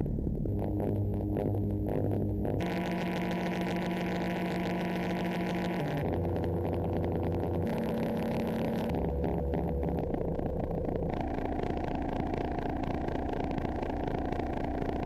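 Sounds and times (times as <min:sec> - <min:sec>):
synthesizer electronic drone: 0:00.0 - 0:15.0.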